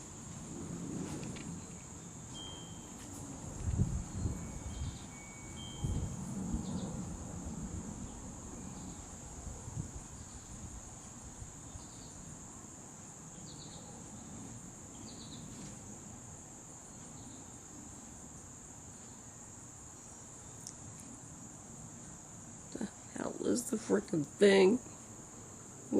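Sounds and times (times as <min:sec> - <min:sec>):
high-pitched insect chorus trilling: 0:00.0 - 0:25.9.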